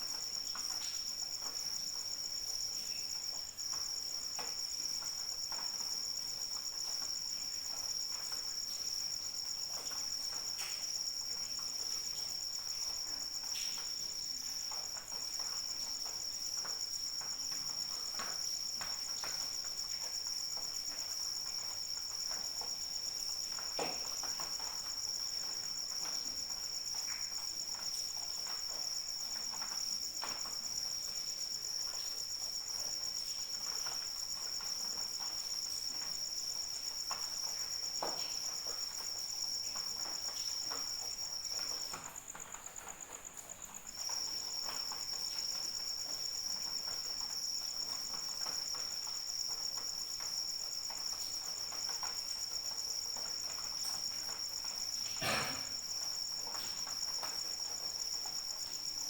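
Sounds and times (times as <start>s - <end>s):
crickets trilling: 0.0s - 59.0s
light rain pattering: 0.0s - 59.0s.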